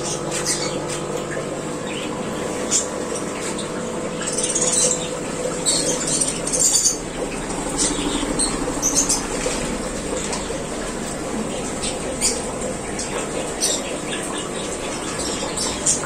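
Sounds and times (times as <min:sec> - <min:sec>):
aquarium air pump humming: 0:00.0 - 0:16.0
small birds chirping: 0:00.0 - 0:16.0.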